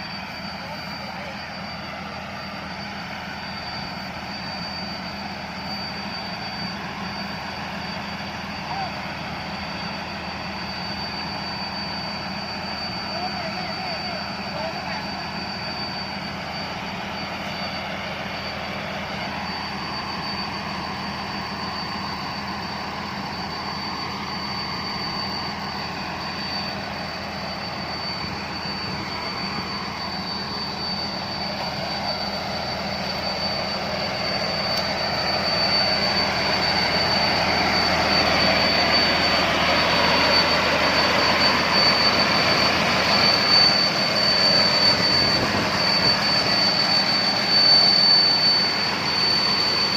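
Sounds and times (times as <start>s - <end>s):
combine harvester engine: 0.0s - 49.9s
constant high whine: 0.0s - 49.9s.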